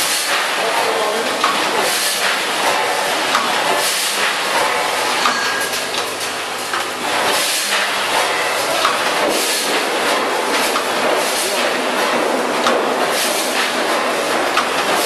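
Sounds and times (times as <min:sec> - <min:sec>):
machine hissing and clacking bursts: 0:00.0 - 0:15.0.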